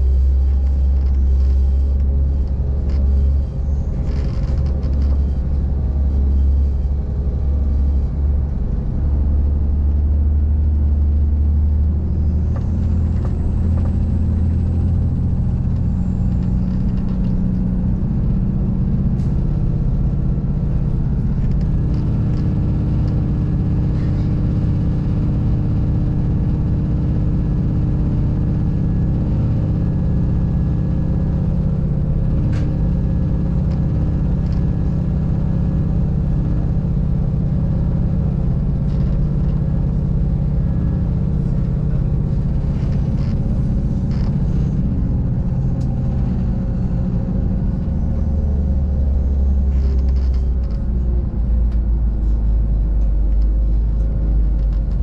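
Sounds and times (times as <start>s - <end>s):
train rumbling inside carriage: 0.0s - 55.0s.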